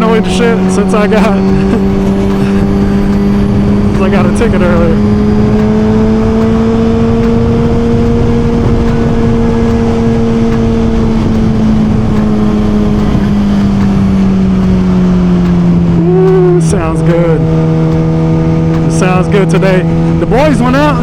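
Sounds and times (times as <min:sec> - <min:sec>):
motorcycle engine cruising: 0:00.0 - 0:21.0
wind rush on microphone: 0:00.0 - 0:21.0.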